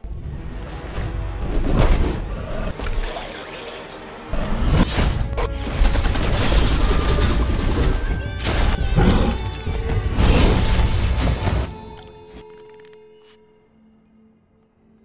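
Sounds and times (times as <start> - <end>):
dramatic music with heavy bass: 0.0 - 12.4.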